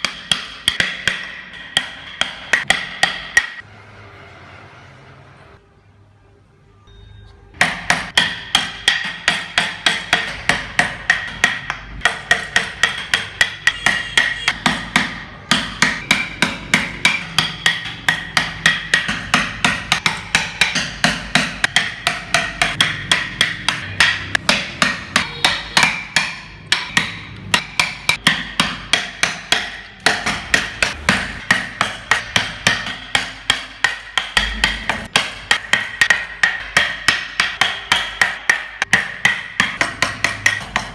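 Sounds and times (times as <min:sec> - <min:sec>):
hammer striking with ringing tone: 0:06.9 - 0:40.9.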